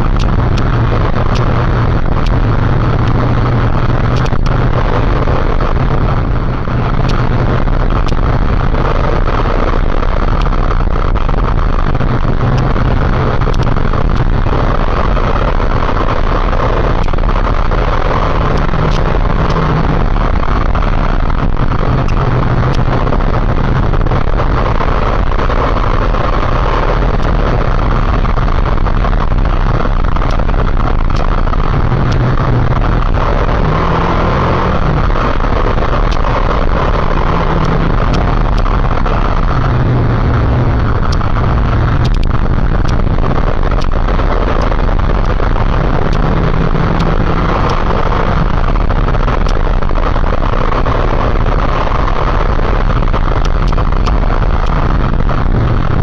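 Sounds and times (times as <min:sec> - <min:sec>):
loud rushing noise: 0:00.0 - 0:56.0
motorcycle engine drone: 0:00.0 - 0:56.0.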